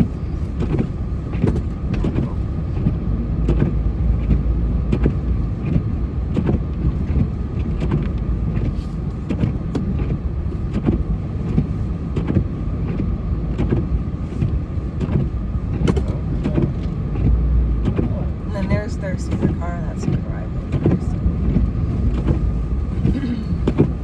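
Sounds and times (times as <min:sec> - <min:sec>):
snowplow engine running: 0:00.0 - 0:24.0.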